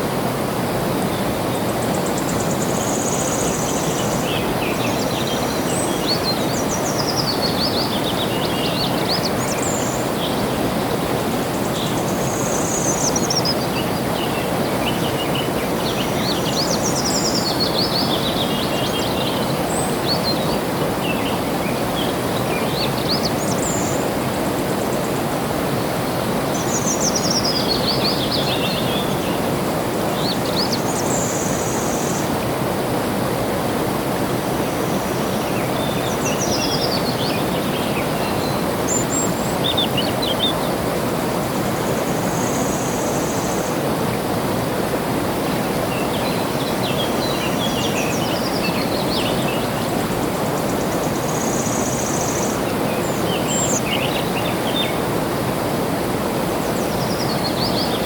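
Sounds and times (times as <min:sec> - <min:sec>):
songbird singing: 0:01.1 - 0:25.3, 0:26.2 - 0:32.4, 0:34.3 - 0:44.2, 0:45.3 - 0:55.2, 0:56.5 - 0:58.0.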